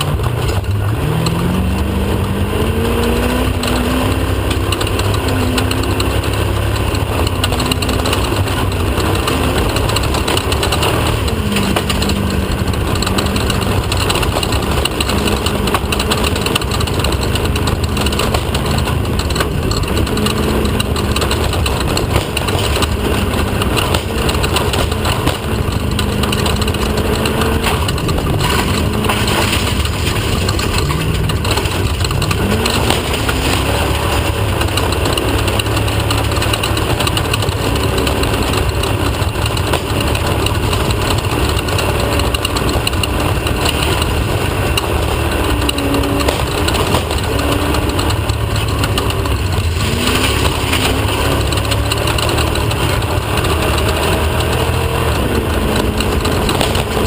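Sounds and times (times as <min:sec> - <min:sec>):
race vehicle engine running hard: 0:00.0 - 0:57.0
steady rattle: 0:00.0 - 0:57.0.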